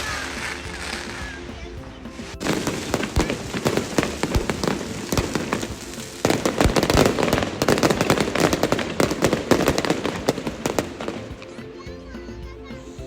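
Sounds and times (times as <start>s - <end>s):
deep fireworks booms: 0.0s - 11.3s
fireworks crackling: 0.0s - 13.0s.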